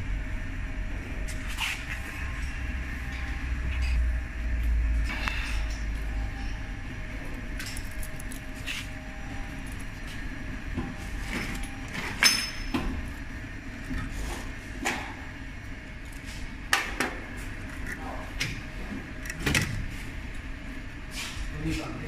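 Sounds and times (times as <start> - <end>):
shrink oven humming: 0.0 - 22.0.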